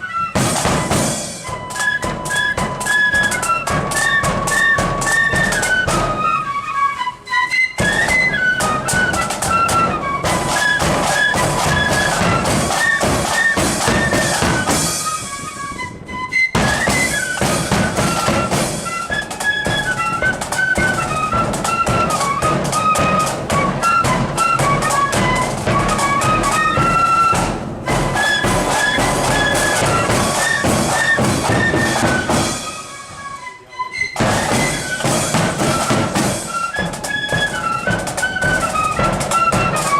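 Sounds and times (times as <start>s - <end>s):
marching flute band playing: 0.0s - 39.9s
snare and bass drums: 0.2s - 6.4s, 7.8s - 15.6s, 16.5s - 33.0s, 34.2s - 39.9s.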